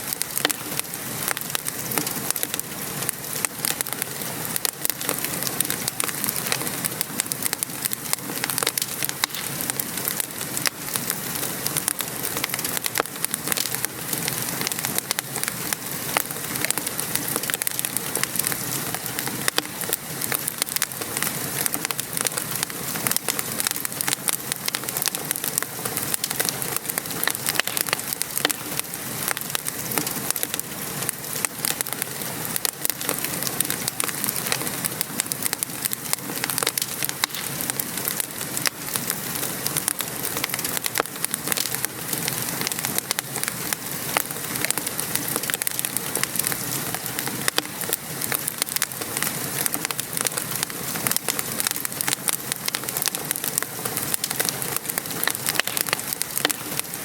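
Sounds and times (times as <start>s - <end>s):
rain pattering: 0.0s - 57.0s
wood fire crackling and popping: 0.0s - 57.0s.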